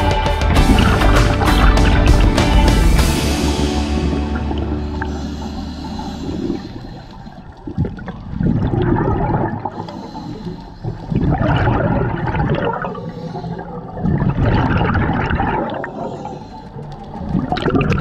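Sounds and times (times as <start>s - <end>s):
underwater breath bubbles: 3.2s - 18.0s.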